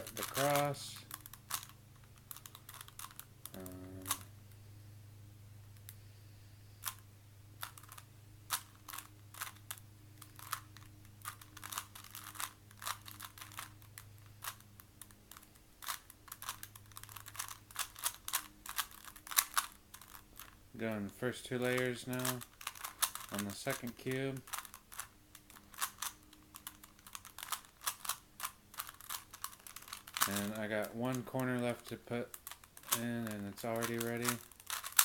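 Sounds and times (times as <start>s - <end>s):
puzzle cube plastic clicks: 0.0s - 4.3s, 6.8s - 7.0s, 7.6s - 20.6s, 21.5s - 35.0s.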